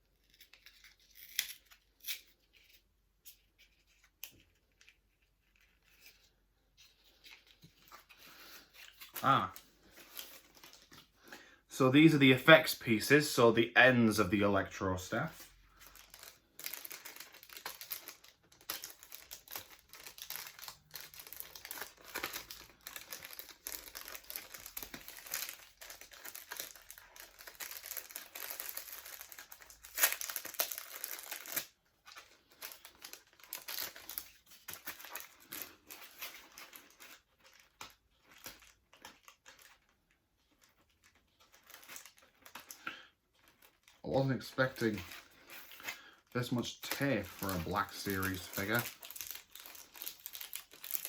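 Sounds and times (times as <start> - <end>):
paper and cardboard crinkling: 0.1 - 11.2, 14.0 - 51.0.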